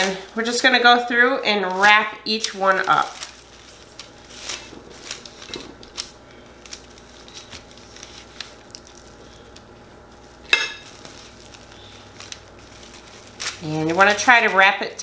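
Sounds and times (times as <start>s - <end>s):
plastic cling wrap crinkling: 0.0s - 15.0s.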